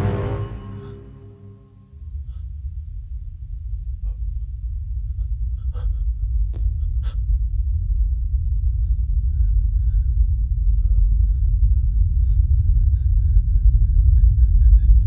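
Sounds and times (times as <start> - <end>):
deep low rumble drone: 0.0 - 15.0.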